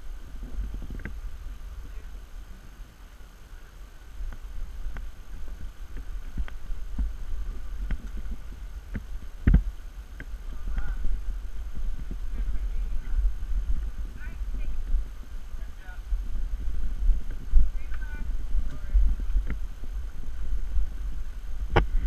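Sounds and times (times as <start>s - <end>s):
low microphone rumble: 0.0s - 22.0s.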